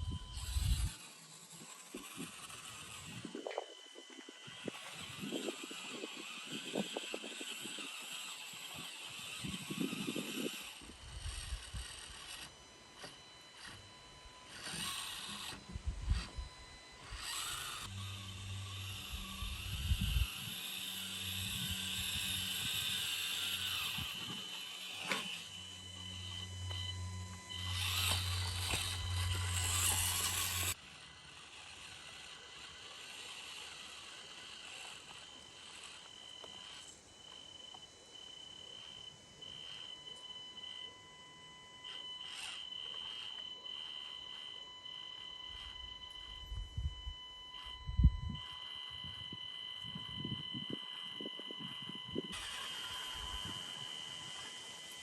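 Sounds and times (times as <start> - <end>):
low hum: 0.0 - 55.0
small electric motor whining: 0.0 - 55.0.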